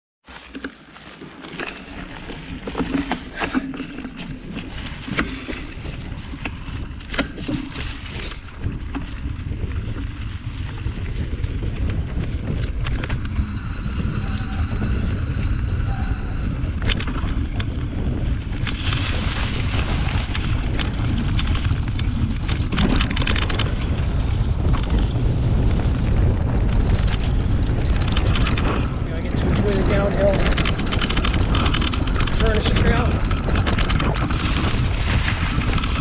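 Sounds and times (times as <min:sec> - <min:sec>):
bike tyres rolling on dirt: 0:00.2 - 0:36.0
bike clicks and rattles: 0:00.3 - 0:36.0
wind buffeting microphone: 0:01.9 - 0:36.0.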